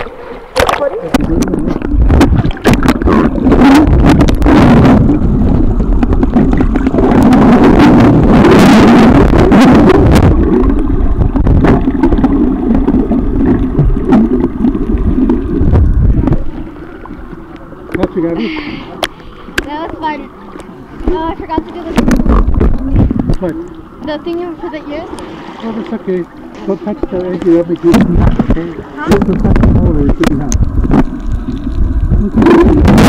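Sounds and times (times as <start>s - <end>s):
muffled underwater rumble: 0.0s - 33.0s
rushing water: 0.0s - 33.0s.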